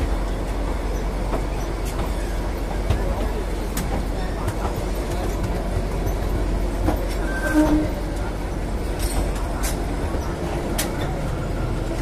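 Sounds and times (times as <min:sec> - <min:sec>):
train coaches rumbling on rails: 0:00.0 - 0:12.0
wheels clacking over rail joints: 0:00.0 - 0:12.0.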